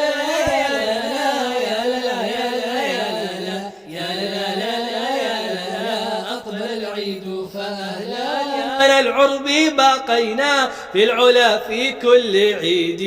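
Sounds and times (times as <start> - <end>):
vocal-effects backing: 0.0 - 13.0
voices singing wordless melody: 0.0 - 13.0.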